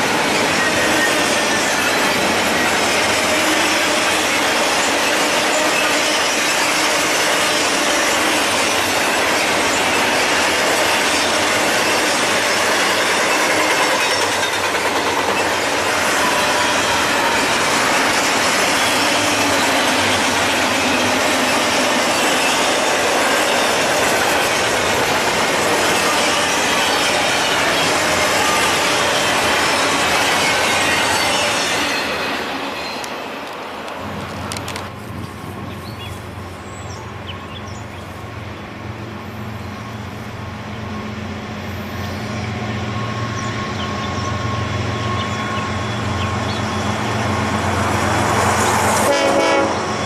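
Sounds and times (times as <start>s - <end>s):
steel wheels running on rails: 0.0s - 50.0s.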